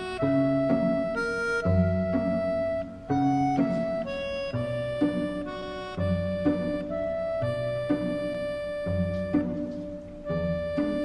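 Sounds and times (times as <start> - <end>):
sustained reedy melodic notes: 0.0 - 11.0.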